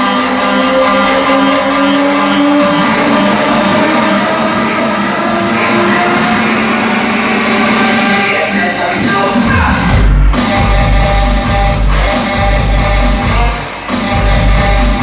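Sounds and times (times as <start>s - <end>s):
loud music with held notes: 0.0s - 15.0s.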